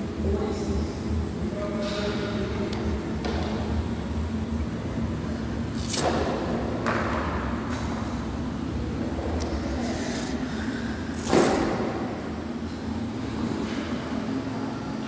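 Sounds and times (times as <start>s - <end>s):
gym background hum: 0.0s - 15.0s.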